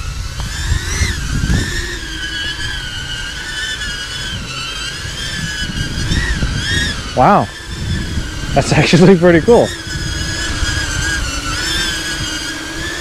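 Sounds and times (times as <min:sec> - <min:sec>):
quadcopter drone buzzing whine: 0:00.0 - 0:13.0.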